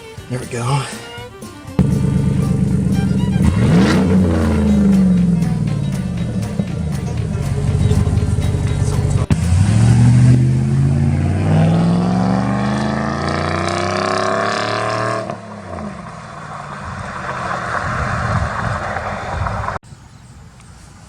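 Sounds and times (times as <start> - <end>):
truck exhaust accelerating: 1.7 - 19.8.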